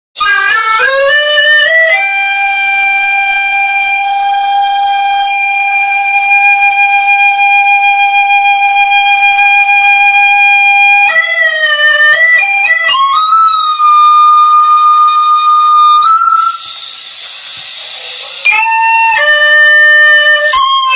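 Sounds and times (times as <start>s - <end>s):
bamboo flute melody: 0.2s - 20.9s.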